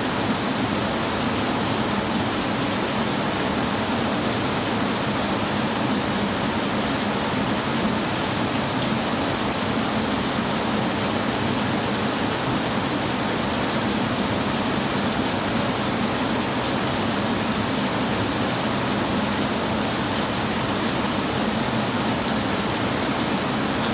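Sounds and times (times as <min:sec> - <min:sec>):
rain on a tin roof: 0:00.0 - 0:23.9.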